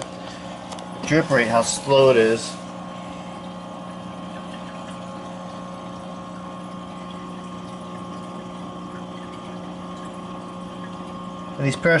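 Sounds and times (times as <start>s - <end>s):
dosing pump humming: 0.0s - 12.0s.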